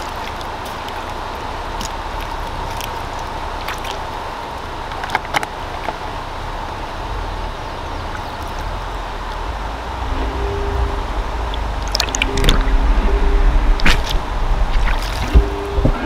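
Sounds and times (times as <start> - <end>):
faint steady whine: 0.0 - 16.0
moving water: 0.0 - 16.0
wind: 0.0 - 16.0.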